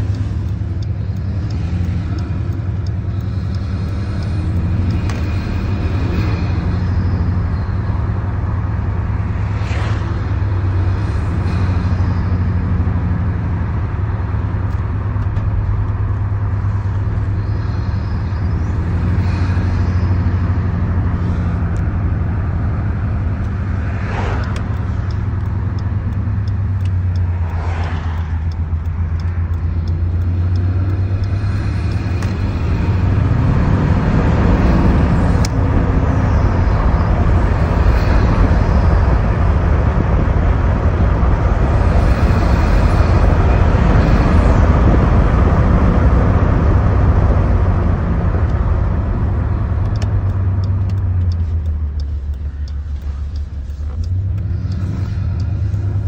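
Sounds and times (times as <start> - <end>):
diesel engine rumble in cabin: 0.0 - 56.0.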